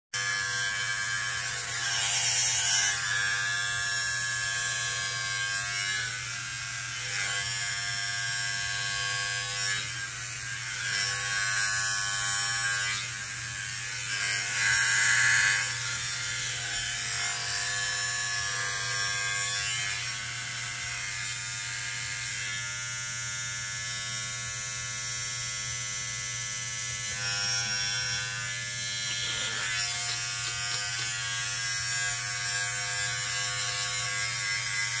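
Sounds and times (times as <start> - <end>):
electric hair clippers buzzing: 0.2 - 35.0.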